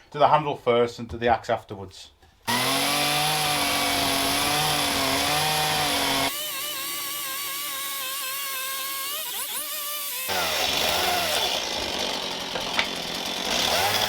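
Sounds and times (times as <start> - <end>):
chainsaw cutting wood: 2.5 - 14.0.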